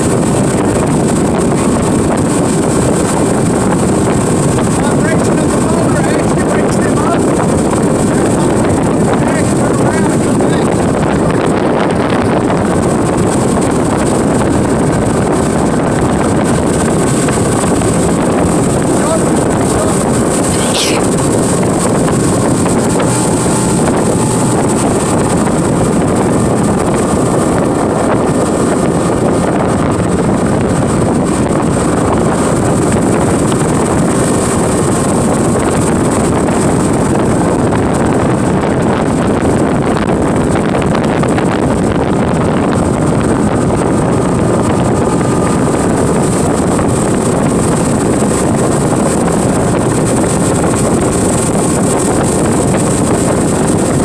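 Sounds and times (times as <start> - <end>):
boat engine running: 0.0 - 54.0
wind buffeting microphone: 0.0 - 54.0.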